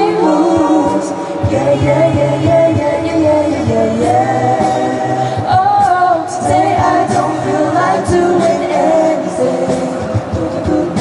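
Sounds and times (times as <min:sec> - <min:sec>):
group singing a cappella in harmony: 0:00.0 - 0:11.0
vocal percussion beat: 0:00.0 - 0:11.0.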